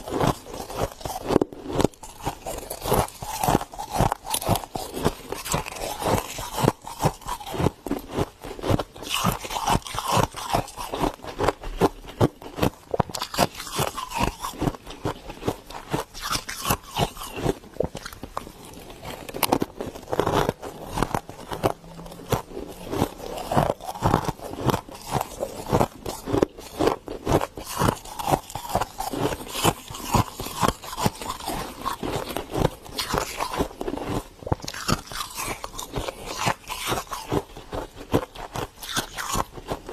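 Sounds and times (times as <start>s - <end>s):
frost crunching: 0.0s - 39.8s.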